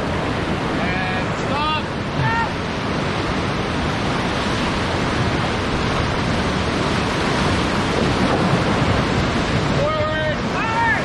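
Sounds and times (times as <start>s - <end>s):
water churning over rocks: 0.0s - 11.0s.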